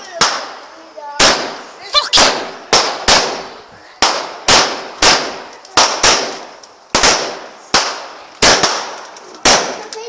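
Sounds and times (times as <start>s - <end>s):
fireworks bangs with echo: 0.0s - 10.0s.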